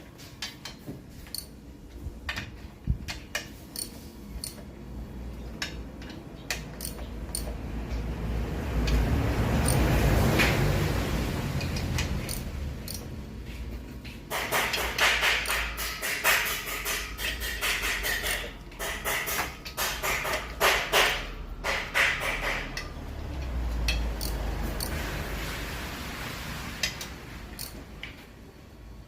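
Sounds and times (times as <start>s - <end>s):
clicks of hand tools and parts: 0.0s - 10.8s, 11.4s - 25.0s, 26.8s - 28.4s.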